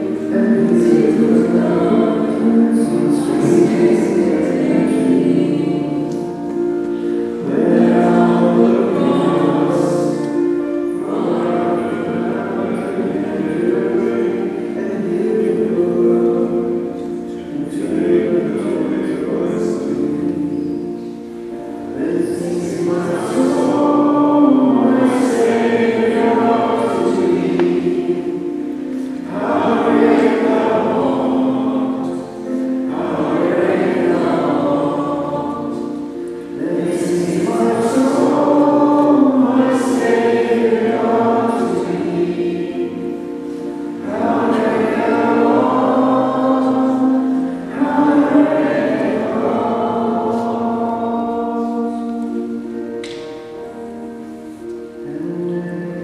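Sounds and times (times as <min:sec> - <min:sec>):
choir singing slow song: 0:00.0 - 0:56.0.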